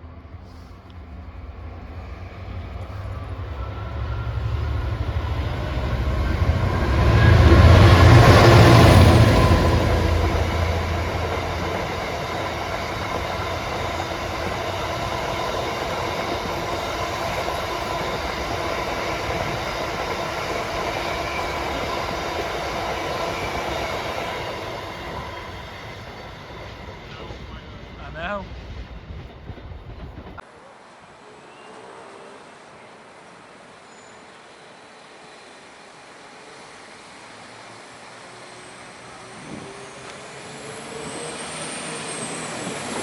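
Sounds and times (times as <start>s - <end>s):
train wheels rumbling on rails: 0.0s - 30.4s, 33.1s - 43.0s
train engine rumble: 0.0s - 43.0s.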